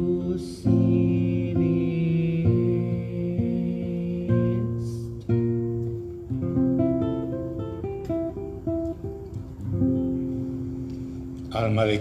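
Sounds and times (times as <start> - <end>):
acoustic guitar playing slowly: 0.0 - 12.0.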